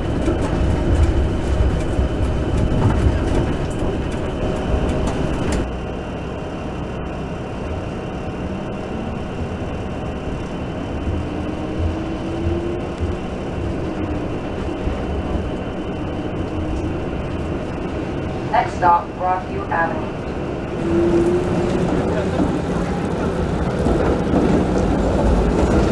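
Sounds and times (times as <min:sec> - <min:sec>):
wheels rumbling on rail: 0:00.0 - 0:25.9.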